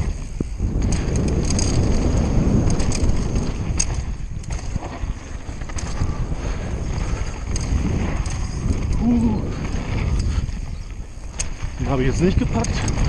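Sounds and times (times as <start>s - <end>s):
bike rattling and knocking: 0.0s - 13.0s
tyres rolling on gravel: 0.0s - 13.0s
wind buffeting microphone: 0.0s - 13.0s.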